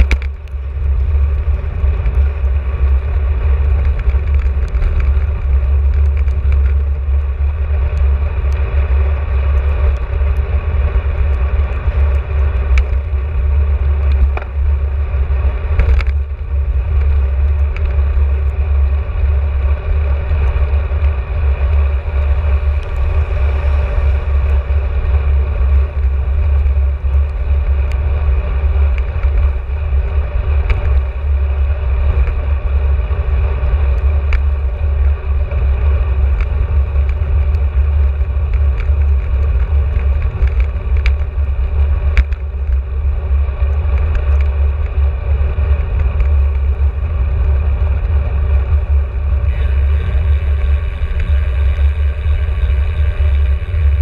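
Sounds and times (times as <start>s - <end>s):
bicycle road noise: 0.0s - 54.0s
wind buffeting microphone: 0.0s - 54.0s.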